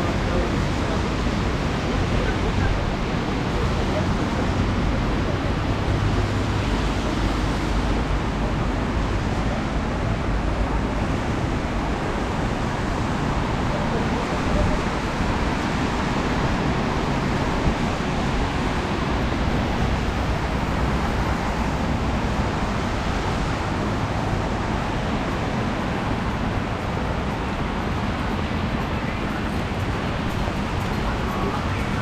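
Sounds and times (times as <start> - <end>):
car engines passing: 0.0 - 32.0
tyres hissing on wet road: 0.0 - 32.0.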